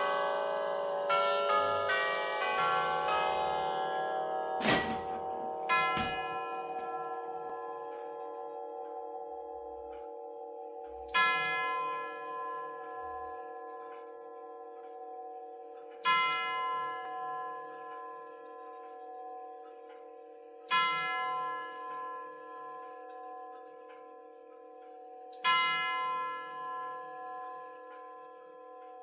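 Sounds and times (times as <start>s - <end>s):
clock striking tubular bell: 0.0s - 29.0s.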